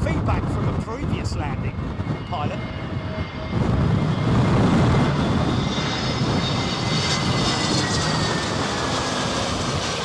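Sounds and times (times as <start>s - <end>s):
high jet whine: 0.0s - 10.0s
jet engines rumbling: 0.0s - 10.0s.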